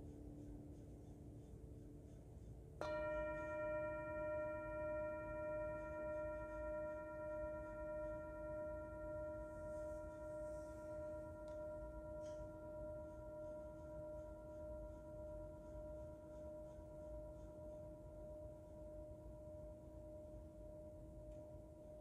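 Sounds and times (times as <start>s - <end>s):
singing bowl struck and ringing: 2.8s - 22.0s.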